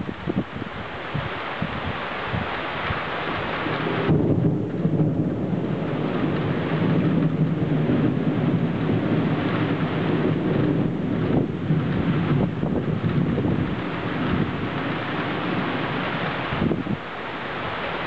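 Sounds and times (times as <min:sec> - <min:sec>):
rain hissing: 0:00.0 - 0:18.0
thunder rumbling: 0:00.0 - 0:18.0.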